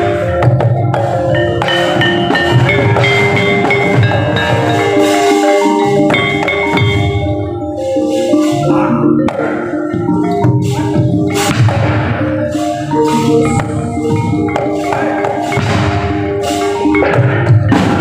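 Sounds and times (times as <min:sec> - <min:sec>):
pulsing drum strokes: 0:00.0 - 0:18.0
ringing metallophone notes: 0:00.0 - 0:18.0.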